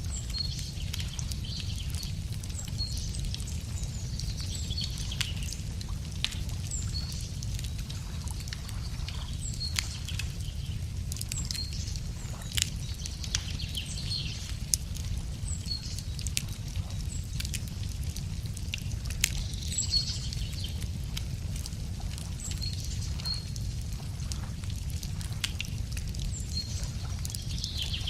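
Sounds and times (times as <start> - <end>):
small birds chirping: 0.0 - 24.0, 26.0 - 28.0
wood fire crackling: 0.0 - 28.0.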